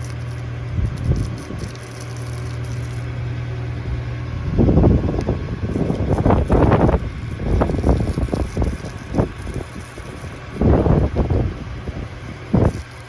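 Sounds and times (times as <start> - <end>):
engine idling: 0.0 - 13.0
rough rushing noise: 0.0 - 13.0.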